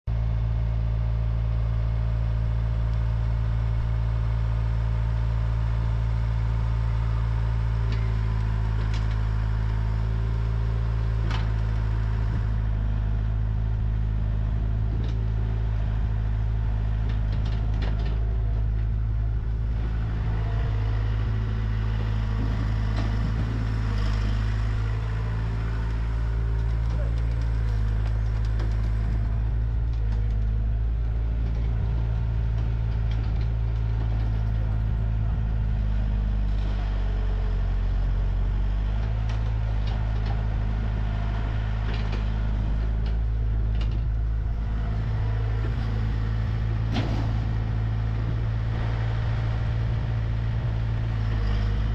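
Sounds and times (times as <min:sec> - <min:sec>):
excavator diesel engine running: 0:00.2 - 0:51.9.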